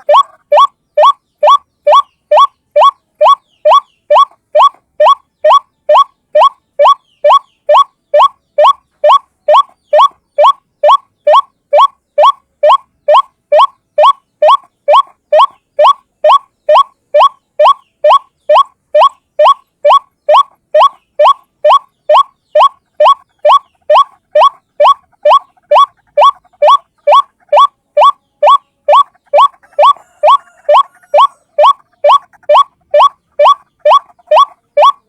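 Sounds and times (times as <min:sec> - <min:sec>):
waterhen calling: 0:00.0 - 0:35.0.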